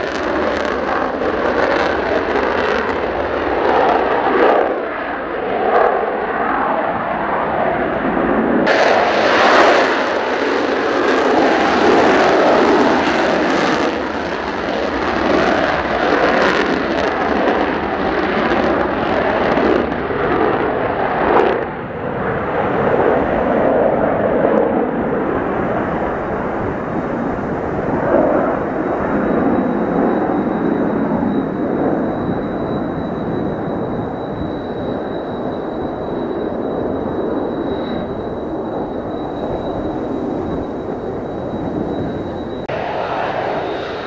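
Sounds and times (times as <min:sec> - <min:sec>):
jet engine roar: 0:00.0 - 0:44.0
wind buffeting microphone: 0:00.0 - 0:44.0.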